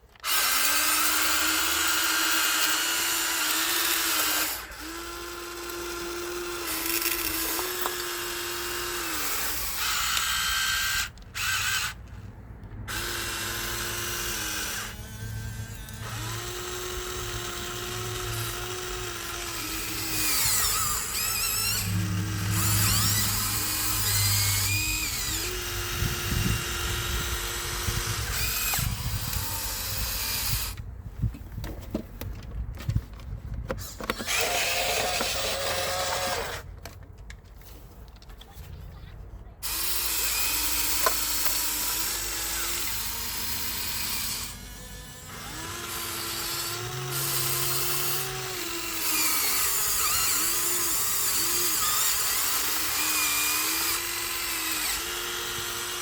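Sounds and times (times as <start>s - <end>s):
small electric motors whining: 0.1s - 30.8s, 33.8s - 36.7s, 39.6s - 56.0s.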